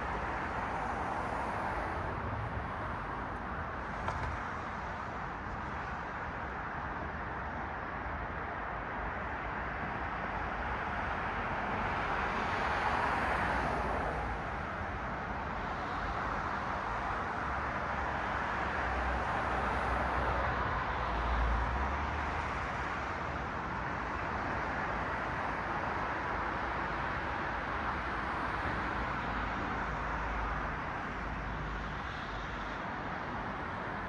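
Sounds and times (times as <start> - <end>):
cars passing on street: 0.0 - 34.0.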